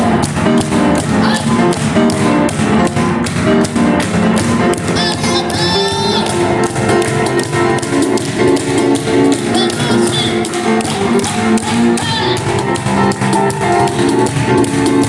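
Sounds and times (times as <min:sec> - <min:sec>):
cajon hand strikes: 0:00.0 - 0:15.0
piano playing: 0:00.0 - 0:15.0.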